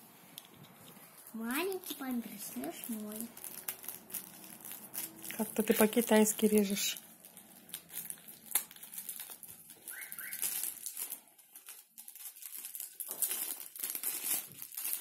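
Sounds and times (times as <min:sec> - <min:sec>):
plastic packaging crinkling: 0:01.0 - 0:15.0.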